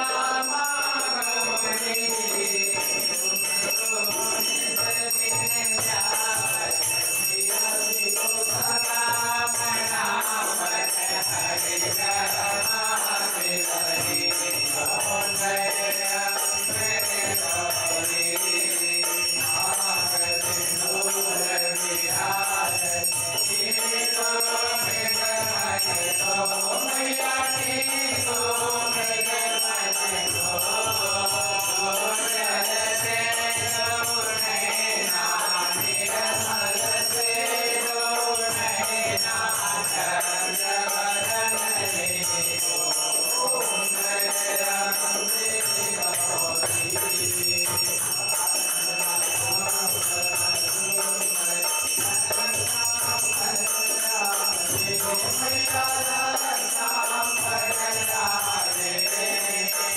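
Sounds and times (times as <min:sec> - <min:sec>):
hand bell ringing: 0:00.0 - 0:59.9
voices singing a hymn: 0:00.0 - 0:59.9.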